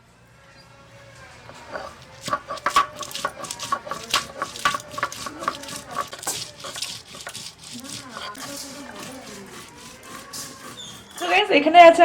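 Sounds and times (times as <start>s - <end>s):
metal kitchenware clinking: 1.5s - 11.5s.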